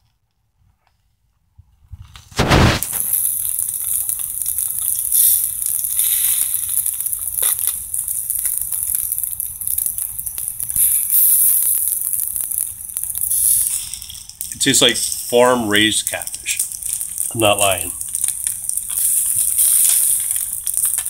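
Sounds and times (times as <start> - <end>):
fish sizzling on a grill: 2.2 - 21.0.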